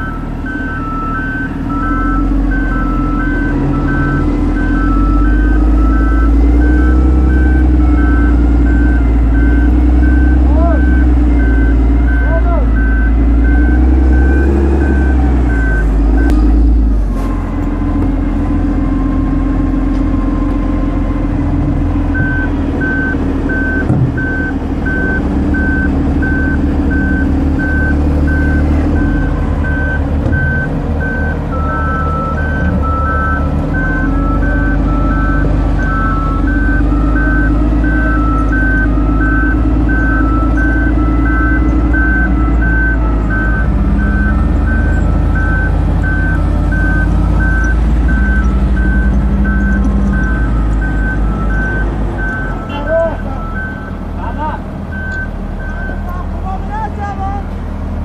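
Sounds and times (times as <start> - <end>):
lower reversing alarm tone: 0.0 - 54.1
reversing alarm beeping: 0.0 - 56.1
diesel engines of wheel loaders: 0.0 - 58.0.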